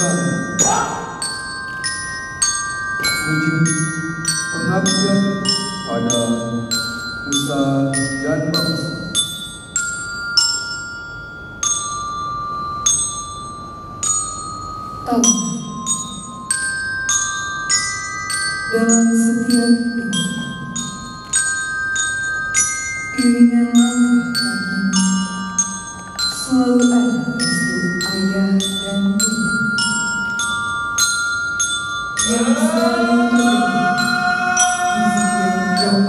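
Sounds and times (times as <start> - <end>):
mallet percussion melody: 0.0 - 36.0.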